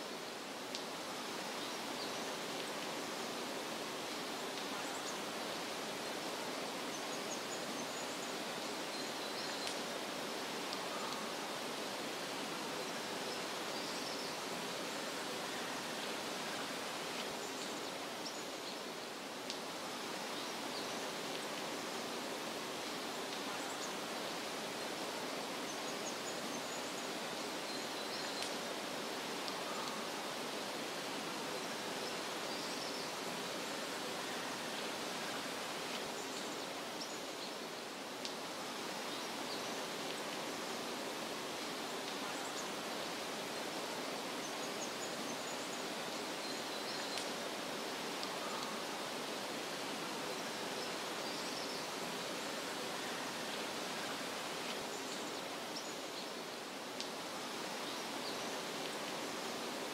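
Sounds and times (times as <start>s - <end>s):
rushing nature ambience: 0.0s - 59.9s.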